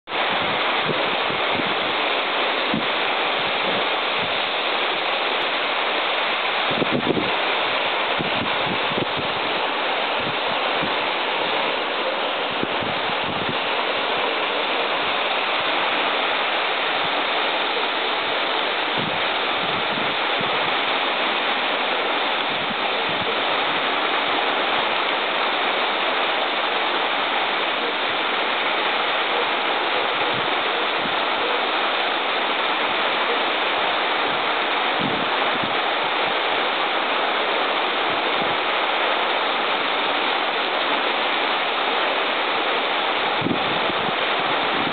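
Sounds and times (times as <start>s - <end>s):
waterfall pouring: 0.1s - 44.9s.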